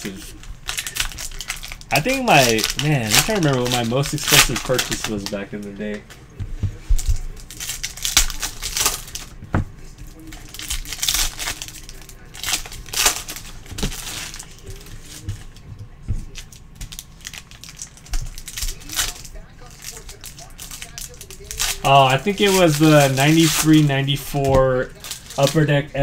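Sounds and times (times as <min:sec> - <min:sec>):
foil wrapper crinkling: 0:00.0 - 0:06.2, 0:07.0 - 0:15.6, 0:16.2 - 0:26.0.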